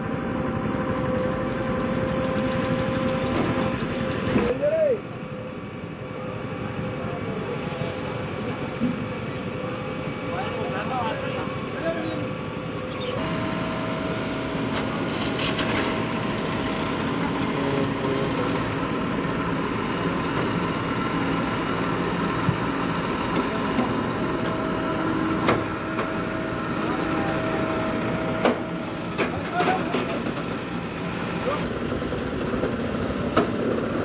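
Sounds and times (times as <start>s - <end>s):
diesel engine running: 0.0s - 4.5s, 5.6s - 34.0s.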